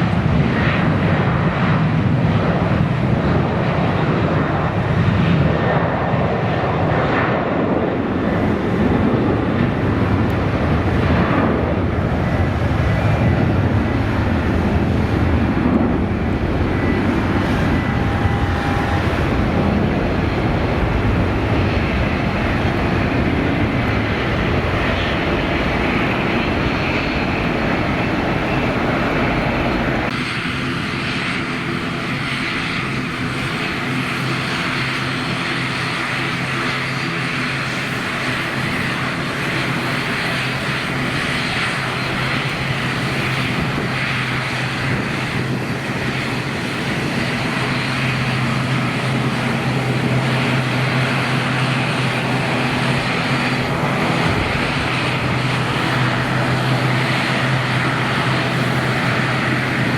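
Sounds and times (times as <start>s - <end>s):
airliner engines roaring: 0.0s - 59.9s.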